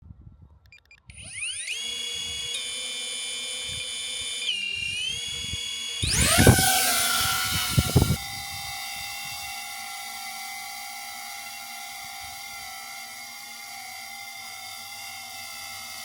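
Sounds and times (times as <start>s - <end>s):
drone propellers whining: 0.8s - 16.0s.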